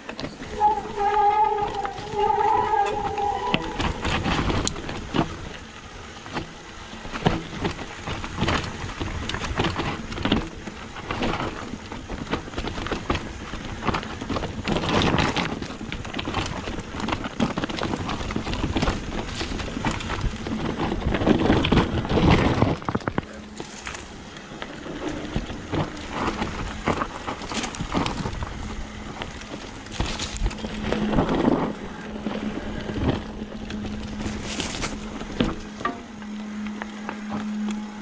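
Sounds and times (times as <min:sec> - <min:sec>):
bike rattling and knocking: 0:00.0 - 0:38.0
tyres crunching over gravel: 0:00.0 - 0:38.0.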